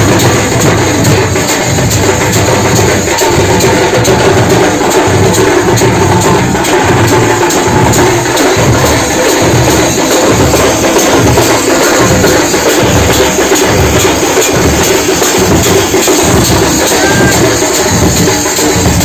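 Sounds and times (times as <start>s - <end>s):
drum ensemble playing: 0.0s - 19.0s.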